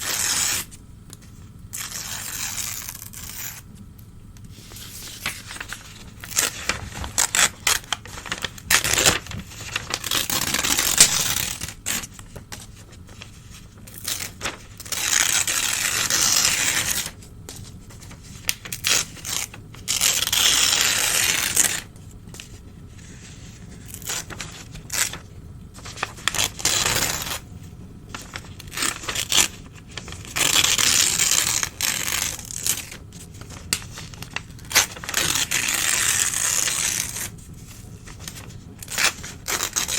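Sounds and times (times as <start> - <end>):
newspaper tearing: 0.0 - 0.8, 1.8 - 3.7, 4.5 - 17.2, 17.9 - 21.9, 23.0 - 27.5, 28.1 - 39.9
paper crackling and crumpling: 4.5 - 39.9.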